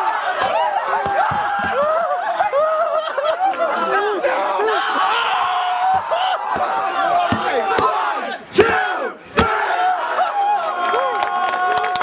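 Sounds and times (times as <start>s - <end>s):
people shouting and hollering: 0.0s - 12.0s.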